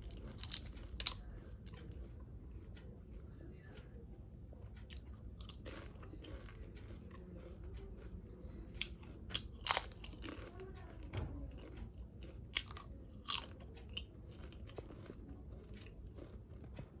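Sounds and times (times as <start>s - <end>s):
person chewing crunchy food: 0.0s - 3.3s, 4.5s - 10.8s, 11.5s - 17.0s.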